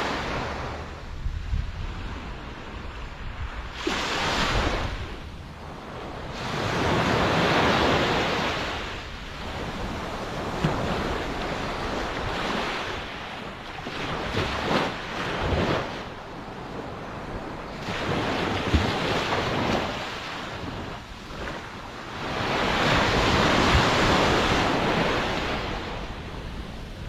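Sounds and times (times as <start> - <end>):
ocean waves washing ashore: 0.0 - 27.0.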